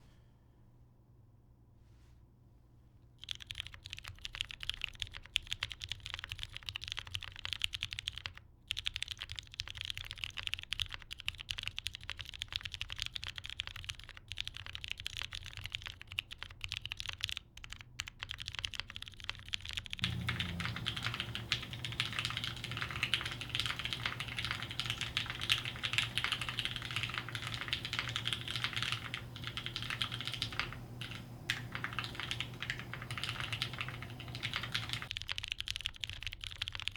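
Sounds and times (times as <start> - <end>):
fast mechanical keyboard typing: 3.2 - 36.9.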